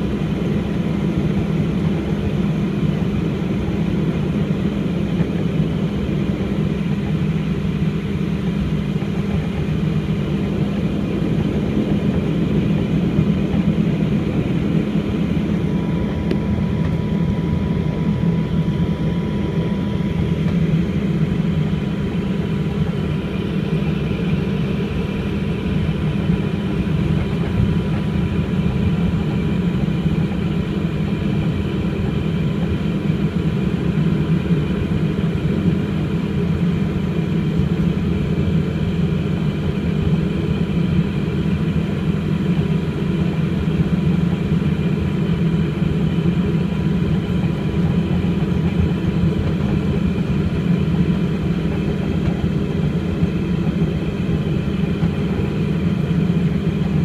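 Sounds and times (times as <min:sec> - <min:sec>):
thin steady whines: 0:00.0 - 0:57.0
turboprop engines droning: 0:00.0 - 0:57.0.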